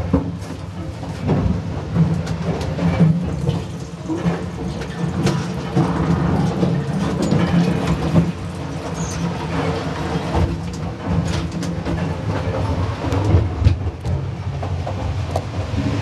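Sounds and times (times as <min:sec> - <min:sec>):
railroad car rolling on track: 0:00.0 - 0:16.0
wheels clicking and clattering: 0:00.0 - 0:16.0.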